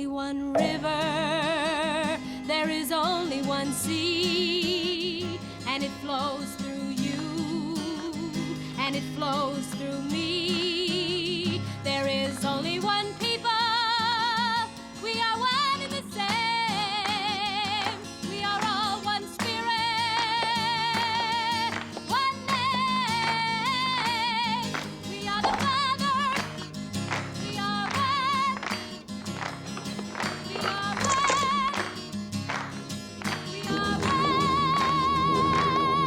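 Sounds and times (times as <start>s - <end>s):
acoustic guitar: 0.0s - 36.0s
woman singing folk song: 0.0s - 36.0s.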